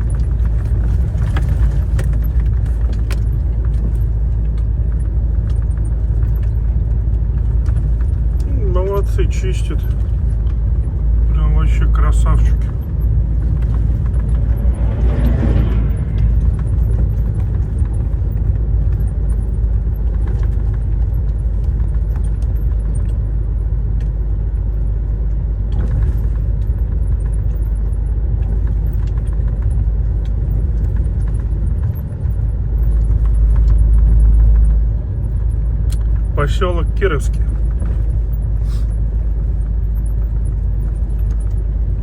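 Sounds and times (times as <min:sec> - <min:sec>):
truck engine rumble: 0:00.0 - 0:42.0
tyres on road: 0:00.0 - 0:42.0.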